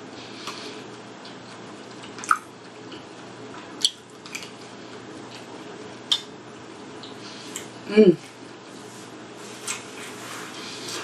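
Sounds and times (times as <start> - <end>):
faint eating sounds: 0.1 - 11.0.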